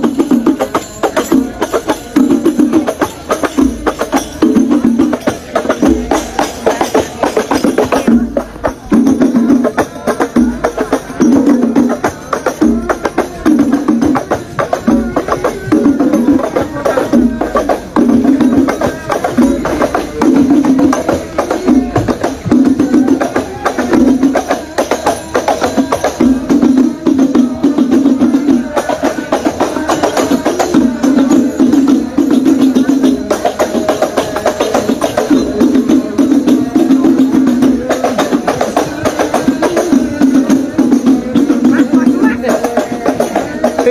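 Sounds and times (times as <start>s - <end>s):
fast hand-drum beats: 0.0s - 43.9s
group of voices singing: 0.0s - 43.9s
tambourine jingles: 0.0s - 43.9s.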